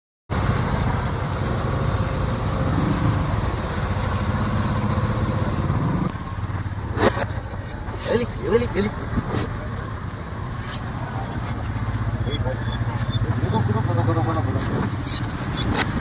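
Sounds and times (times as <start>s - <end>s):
scooter engine running: 0.3s - 16.0s.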